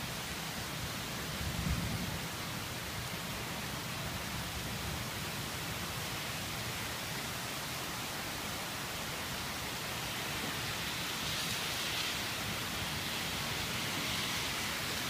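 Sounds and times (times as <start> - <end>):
heavy rain on trees and grass: 0.0 - 15.0.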